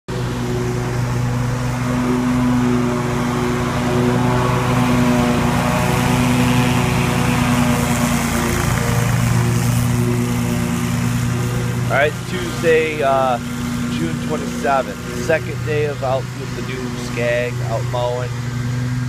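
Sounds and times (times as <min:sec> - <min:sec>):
riding mower engine drone: 0:00.0 - 0:19.0.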